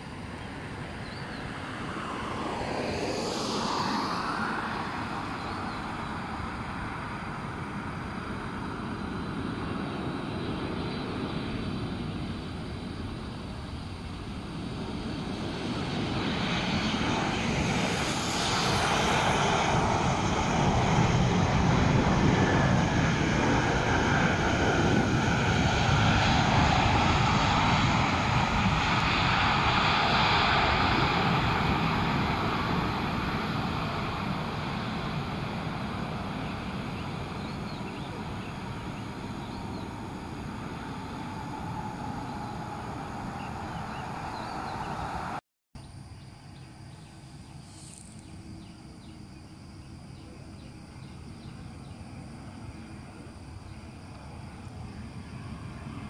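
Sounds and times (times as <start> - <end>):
jet aircraft landing: 0.0 - 56.0.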